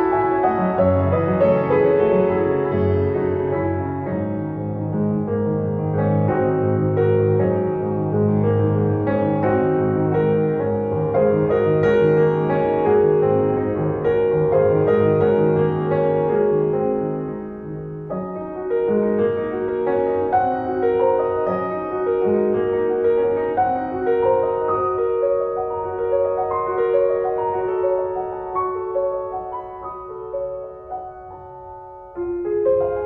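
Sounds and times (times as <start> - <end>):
piano melody: 0.0 - 33.0.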